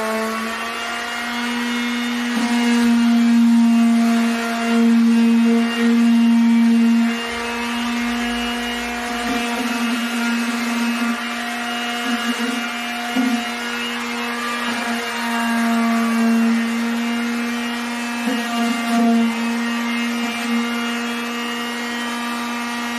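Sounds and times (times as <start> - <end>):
orbital sander humming and whining: 0.0 - 22.9.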